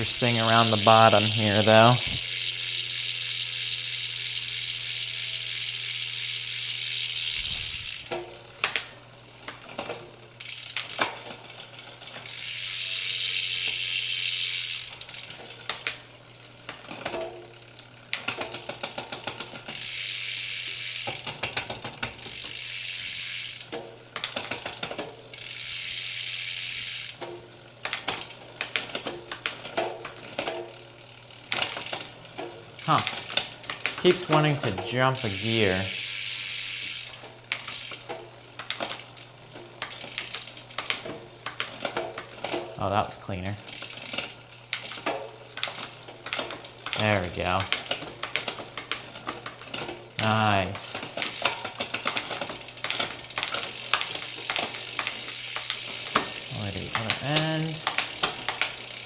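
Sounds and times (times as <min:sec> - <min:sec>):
freehub pawls ticking: 0:00.0 - 0:09.7, 0:10.3 - 0:27.2, 0:32.8 - 0:42.3, 0:43.6 - 0:59.0
bicycle chain running: 0:00.0 - 0:59.0.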